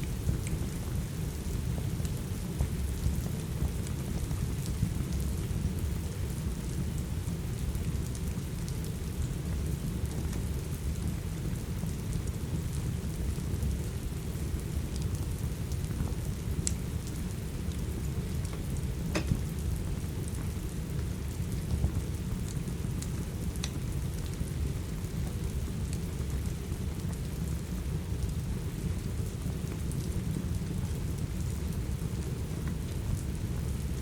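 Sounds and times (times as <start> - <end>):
low constant rumble: 0.0 - 34.0
steady rain: 0.0 - 34.0
wood fire crackles: 0.0 - 34.0.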